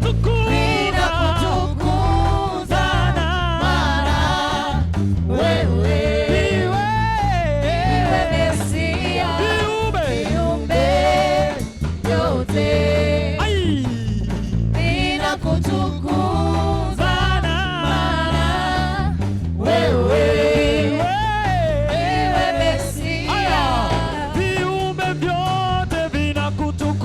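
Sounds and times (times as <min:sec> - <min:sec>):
gospel singing voices: 0:00.0 - 0:26.2
band with steady bass: 0:00.0 - 0:27.0.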